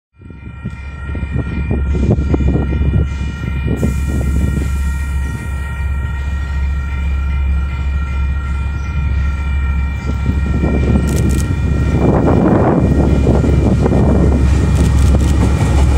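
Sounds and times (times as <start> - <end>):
diesel locomotive rumble: 0.2 - 15.9
multi-note train horn chord: 1.6 - 14.7.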